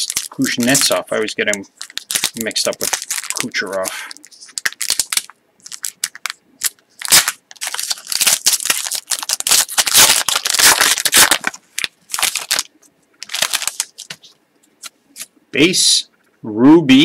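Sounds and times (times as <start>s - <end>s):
foil wrapper crinkling and tearing: 0.0s - 14.4s.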